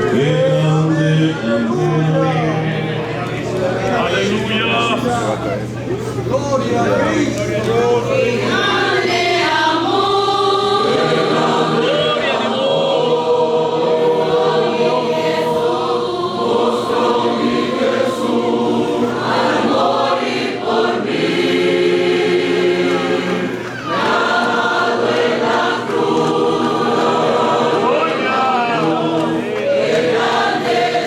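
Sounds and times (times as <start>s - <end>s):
choir singing: 0.0s - 31.0s.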